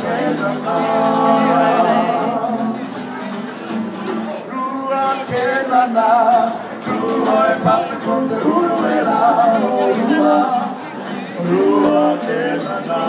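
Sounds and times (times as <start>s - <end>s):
male vocal group singing in harmony: 0.0s - 2.9s, 4.5s - 13.0s.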